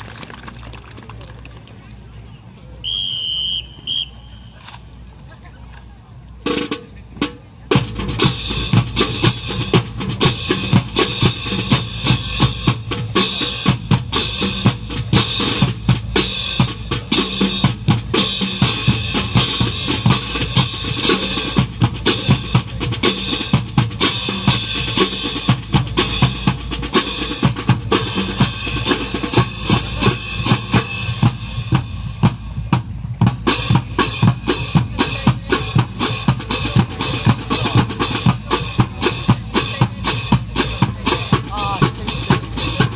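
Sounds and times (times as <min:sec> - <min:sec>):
drum-led music: 0:06.4 - 0:42.9.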